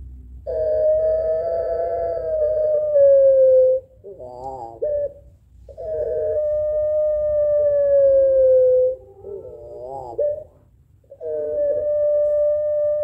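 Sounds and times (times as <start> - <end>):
dove cooing: 0.4 - 13.0.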